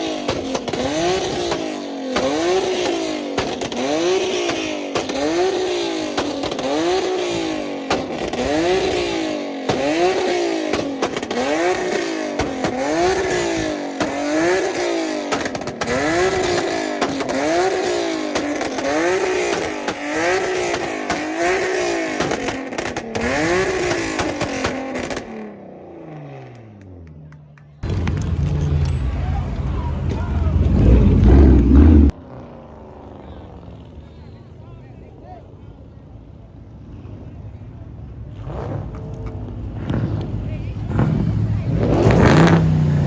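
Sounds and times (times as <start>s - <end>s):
car engine revving: 0.0s - 27.2s, 27.8s - 34.0s, 38.3s - 43.0s.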